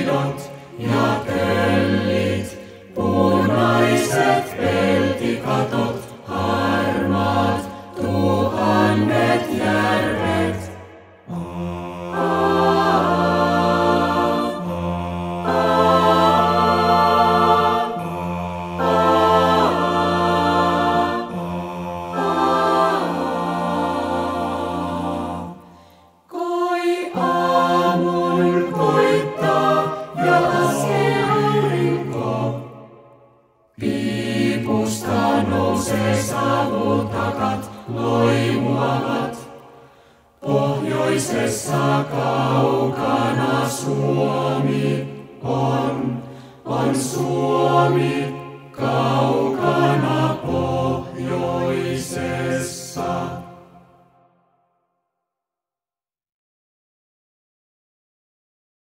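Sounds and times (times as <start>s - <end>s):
a cappella choir singing: 0.0s - 54.8s.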